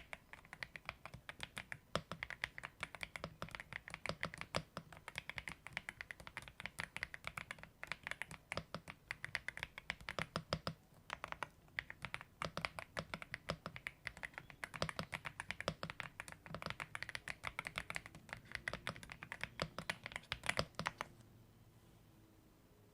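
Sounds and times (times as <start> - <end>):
mechanical keyboard typing: 0.0 - 21.1.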